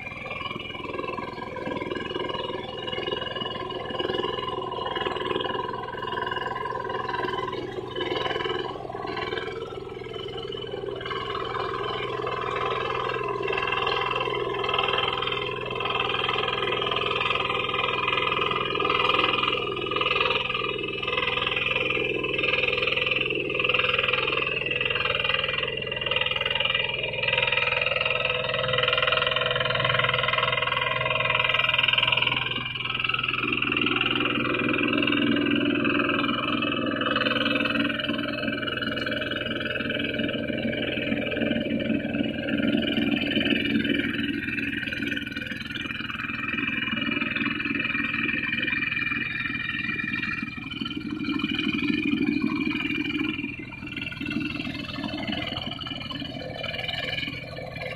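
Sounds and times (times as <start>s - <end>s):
diesel tractor engine running: 0.0s - 57.9s
frogs croaking: 0.0s - 57.9s.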